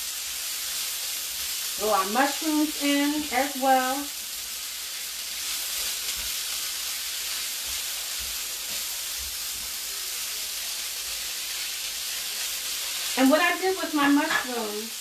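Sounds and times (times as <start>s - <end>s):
spatula stirring in skillet: 0.0s - 14.7s
vegetables sizzling in a skillet: 0.0s - 15.0s.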